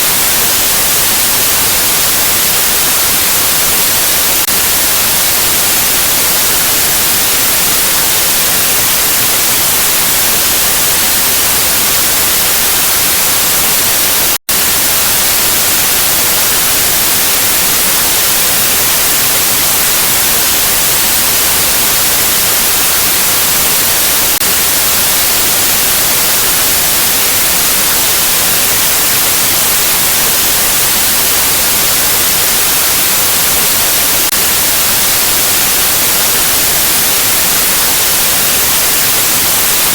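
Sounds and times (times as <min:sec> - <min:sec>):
white noise static hiss: 0:00.0 - 0:39.9.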